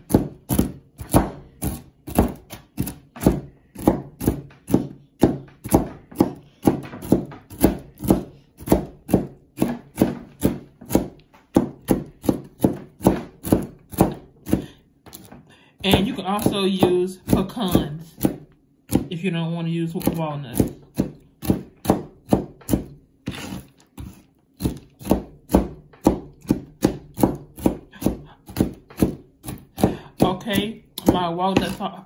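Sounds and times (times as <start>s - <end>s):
knife chopping nuts on board: 0.0s - 19.1s, 19.9s - 32.0s.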